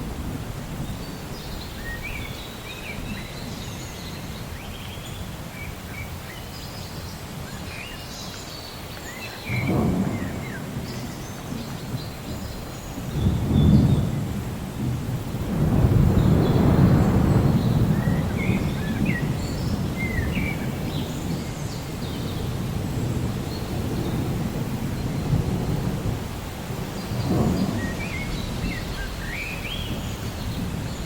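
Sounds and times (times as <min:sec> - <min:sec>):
low rumble of thunder: 0:00.0 - 0:31.0
birds chirping and warbling: 0:00.8 - 0:14.2, 0:14.8 - 0:31.0.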